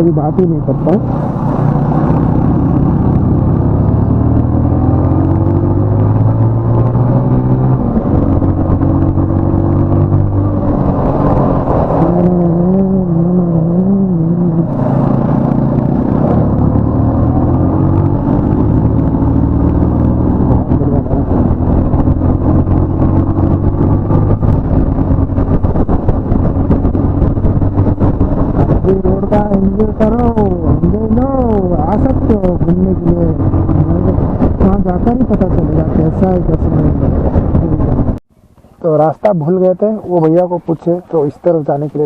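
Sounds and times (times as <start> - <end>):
motorcycle engine running: 0.0 - 38.8.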